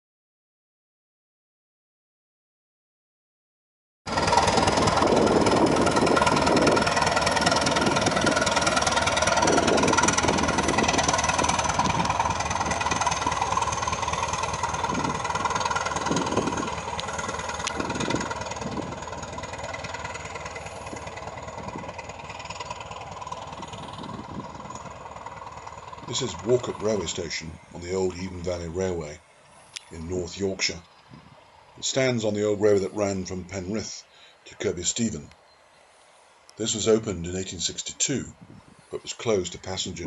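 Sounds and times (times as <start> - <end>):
high whine: 4.1 - 37.8
diesel engine low pulsing: 4.1 - 40.0.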